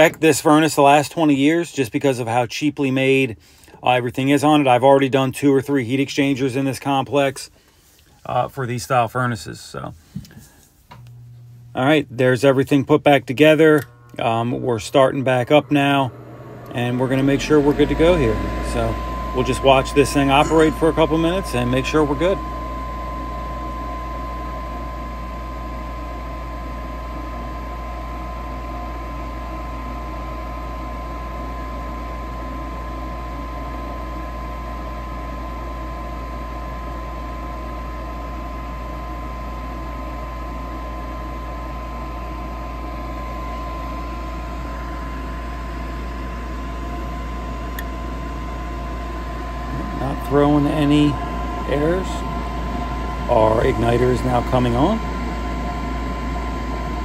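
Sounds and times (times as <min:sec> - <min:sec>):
furnace motor humming: 0:00.0 - 0:05.0, 0:09.6 - 0:57.0.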